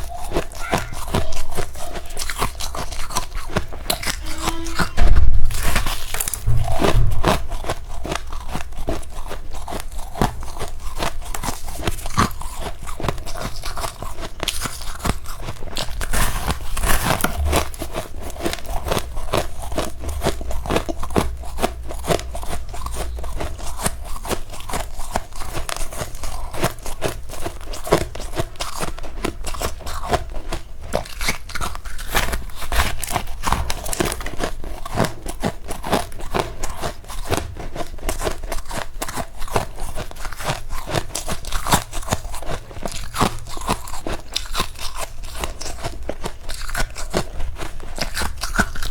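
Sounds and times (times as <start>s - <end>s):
chewing crunchy frost: 0.0s - 48.9s.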